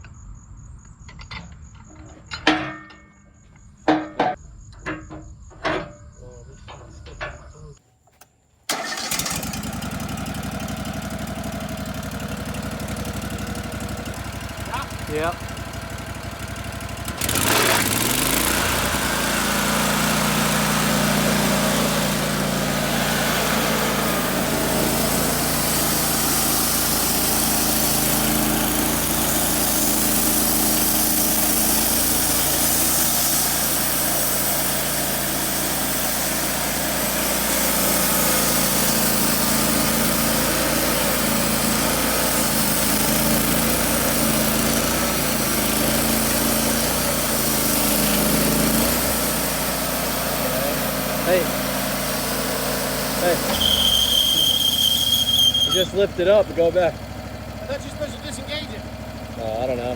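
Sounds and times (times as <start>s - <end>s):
small gasoline engine running: 8.7s - 59.9s.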